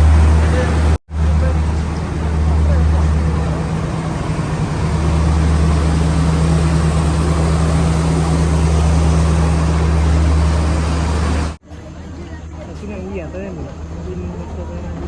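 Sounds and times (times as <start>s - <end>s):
train engine hum: 0.0s - 15.0s
train running noise: 0.0s - 15.0s.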